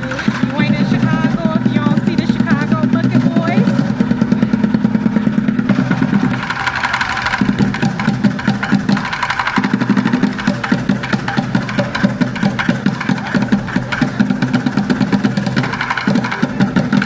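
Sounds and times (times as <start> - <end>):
drumming on plastic buckets: 0.0 - 17.0.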